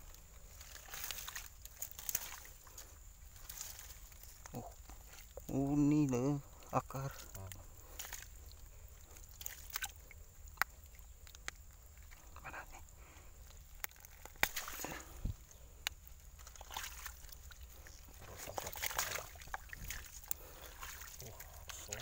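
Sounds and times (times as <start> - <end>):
hand squelching in wet mud: 0.5 - 5.4, 6.6 - 12.4, 13.3 - 22.0.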